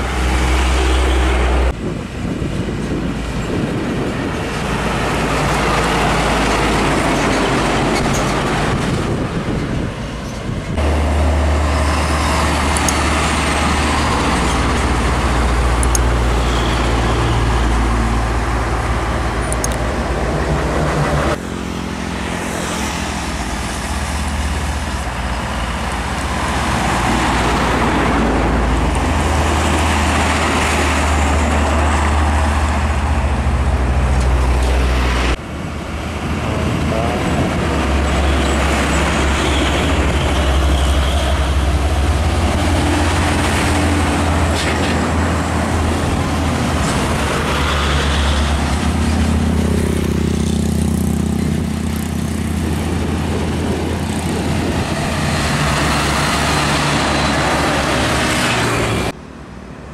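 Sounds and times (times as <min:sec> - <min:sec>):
diesel trucks driving past: 0:00.0 - 0:59.9.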